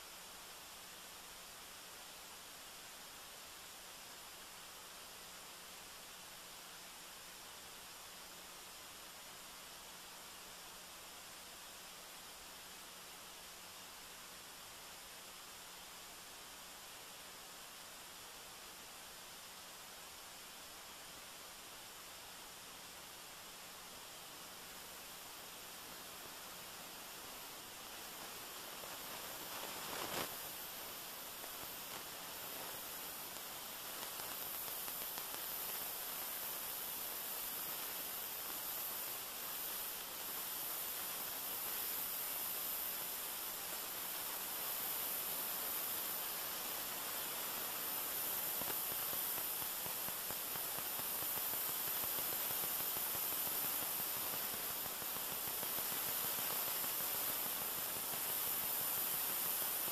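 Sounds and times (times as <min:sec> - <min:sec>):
electronic hiss and static: 0:00.0 - 0:59.9.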